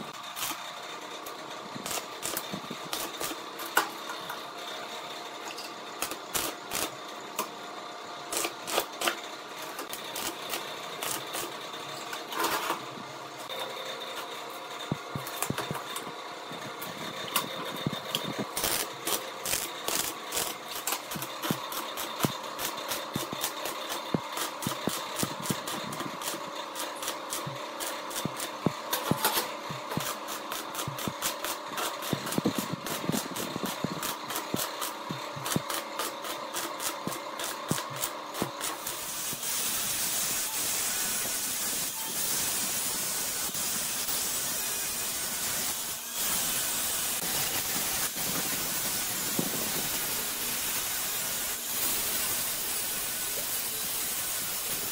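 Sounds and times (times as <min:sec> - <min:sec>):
welding arc crackling: 0:00.0 - 0:04.4, 0:05.9 - 0:07.5, 0:08.2 - 0:12.6, 0:14.3 - 0:54.9
steady hum: 0:00.0 - 0:54.9.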